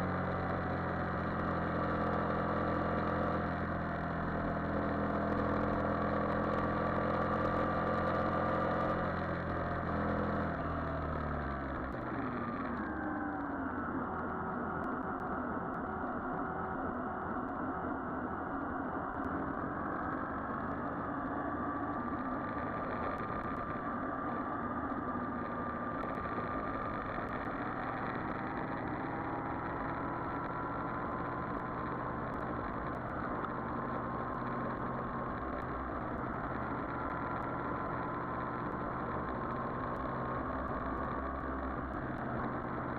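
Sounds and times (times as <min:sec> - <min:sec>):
motorcycle engine running: 0:00.0 - 0:13.6, 0:21.6 - 0:42.9
road and wind noise: 0:00.0 - 0:42.9.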